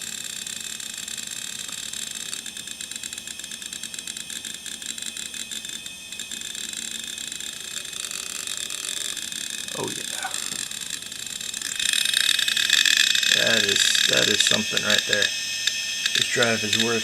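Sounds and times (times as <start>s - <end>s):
hard drive whine: 0.0s - 17.0s
hard drive heads clicking: 1.6s - 17.0s.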